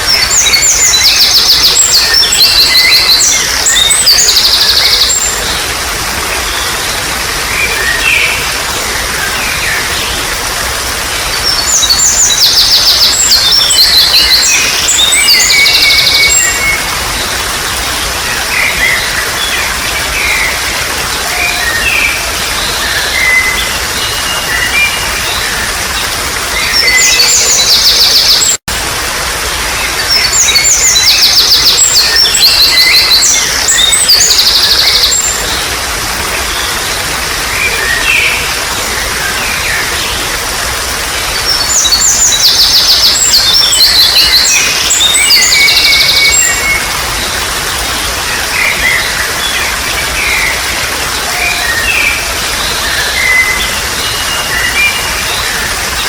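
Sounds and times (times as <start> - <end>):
birds chirping and whistling: 0.0 - 28.6, 29.8 - 35.7, 37.5 - 40.3, 41.1 - 56.0
water trickling: 0.0 - 56.0.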